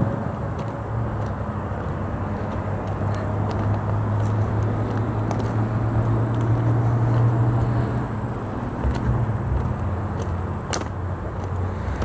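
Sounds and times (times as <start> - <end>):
low engine hum: 0.0 - 12.0
outdoor background noise: 0.0 - 12.0.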